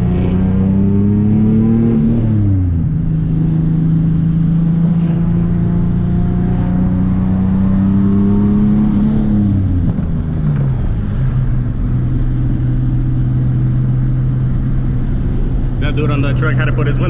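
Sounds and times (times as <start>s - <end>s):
car engine under throttle: 0.0s - 17.0s.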